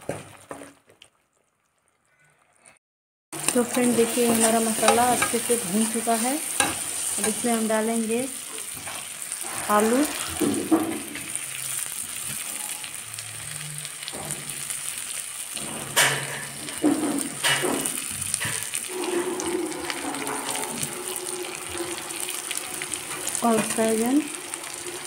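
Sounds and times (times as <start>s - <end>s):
spices sizzling in hot oil: 3.4s - 25.0s.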